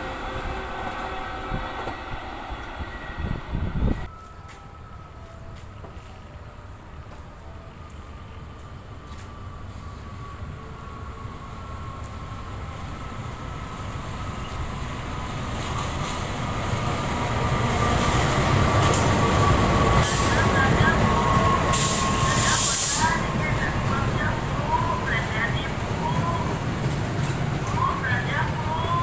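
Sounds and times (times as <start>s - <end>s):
locomotive engine and wheel rumble: 0.0s - 29.0s.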